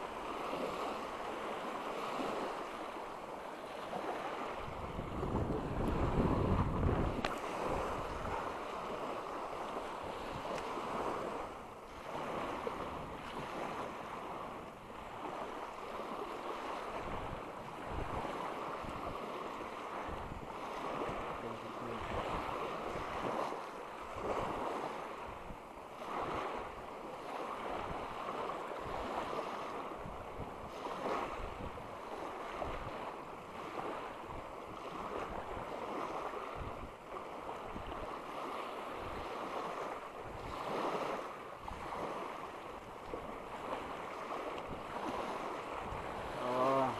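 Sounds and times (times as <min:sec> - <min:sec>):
small waves washing onto shore: 0:00.0 - 0:46.9
wind buffeting microphone: 0:03.7 - 0:46.9.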